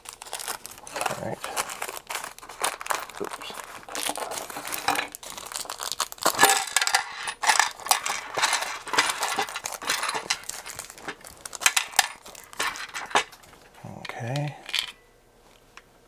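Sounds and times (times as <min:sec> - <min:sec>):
plastic bag rustling: 0:00.0 - 0:13.8.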